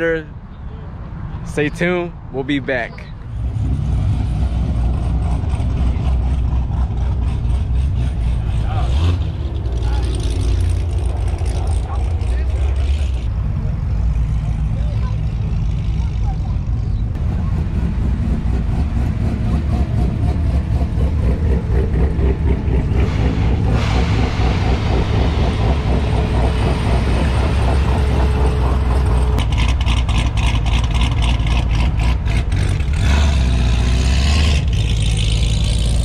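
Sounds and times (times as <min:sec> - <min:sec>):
car engines rumbling: 0:00.0 - 0:36.0.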